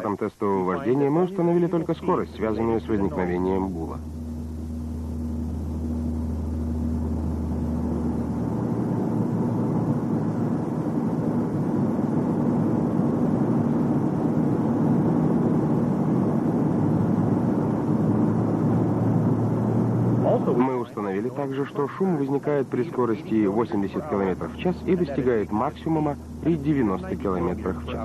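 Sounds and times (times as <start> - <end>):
low drone: 0.0 - 28.0.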